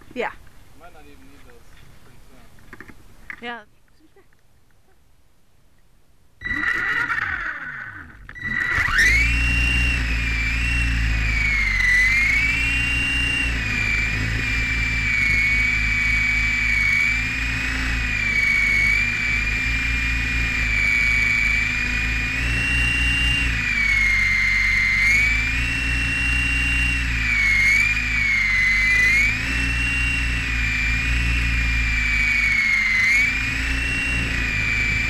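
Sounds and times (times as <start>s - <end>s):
helicopter motor and rotor whine: 6.4s - 35.0s.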